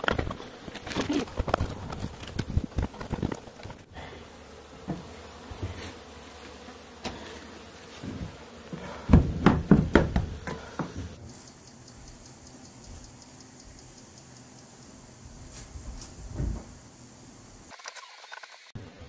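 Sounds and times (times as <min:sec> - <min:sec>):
bees buzzing: 0:00.0 - 0:15.5, 0:16.8 - 0:19.0.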